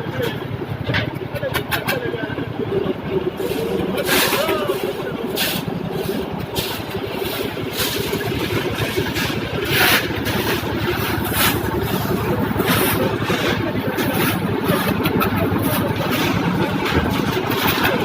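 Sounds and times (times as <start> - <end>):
engine chugging: 0.0 - 18.0.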